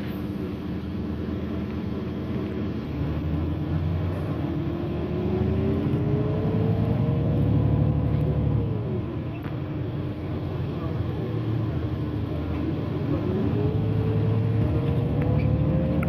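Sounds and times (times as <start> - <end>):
bus engine rumble: 0.0 - 16.0
drivetrain whine: 0.0 - 16.0.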